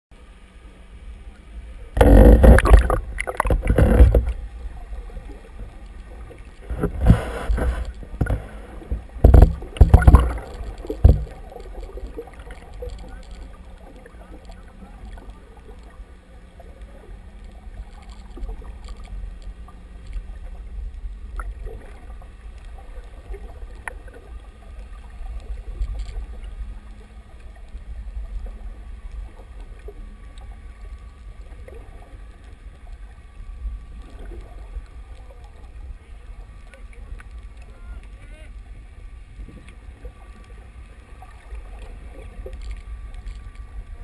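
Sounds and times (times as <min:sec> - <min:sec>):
faint hum: 0:00.1 - 0:44.0
underwater rumble of moving water: 0:00.1 - 0:44.0.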